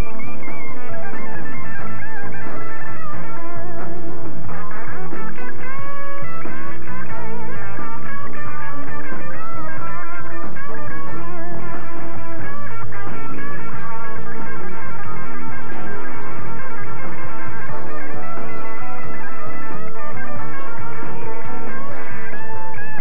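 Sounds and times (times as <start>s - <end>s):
rock music with electric guitar: 0.0s - 23.0s.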